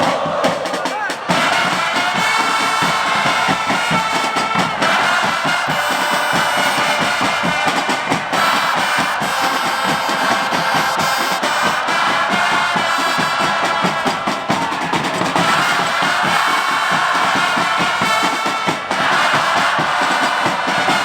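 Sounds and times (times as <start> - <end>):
crowd of fans singing: 0.0 - 21.0.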